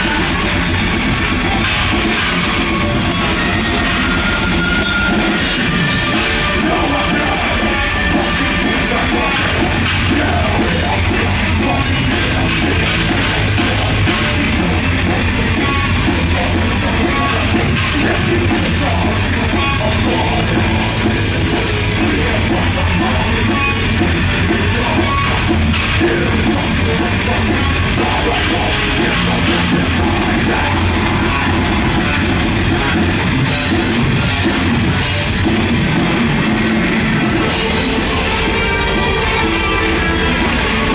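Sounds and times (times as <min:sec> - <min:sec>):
distorted electric guitars: 0:00.0 - 0:40.9
drum kit: 0:00.0 - 0:40.9
heavy low bass line: 0:00.0 - 0:40.9.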